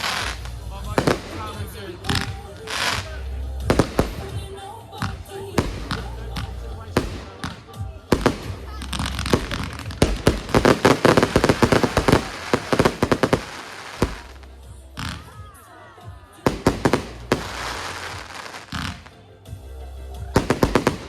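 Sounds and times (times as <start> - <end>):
fireworks cracks and bangs: 0.0 - 15.5, 16.3 - 19.2, 20.4 - 21.0.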